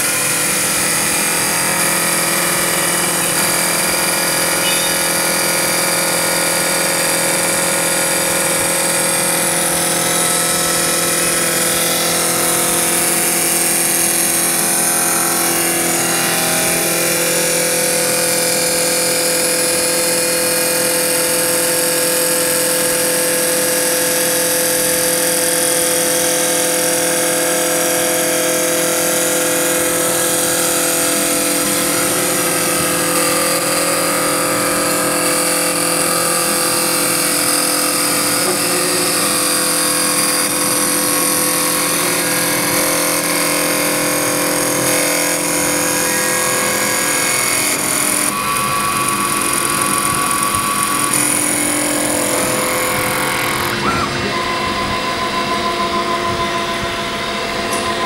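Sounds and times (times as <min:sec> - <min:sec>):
cutter shaving spinning wood: 0:00.0 - 0:58.0
lathe machine whine: 0:00.0 - 0:58.0.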